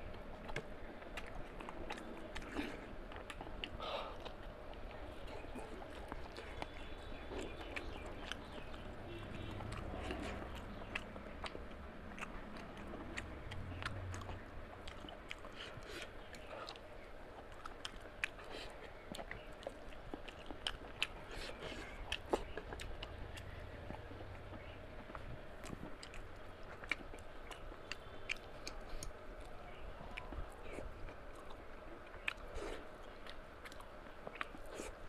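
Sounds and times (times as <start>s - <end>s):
wet chewing: 0.0s - 35.0s.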